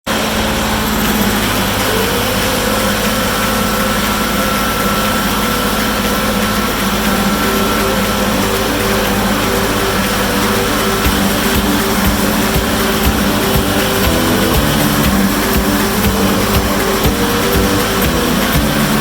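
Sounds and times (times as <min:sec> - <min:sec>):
steady whining tones: 0:00.1 - 0:19.0
tractor engine droning: 0:00.1 - 0:19.0.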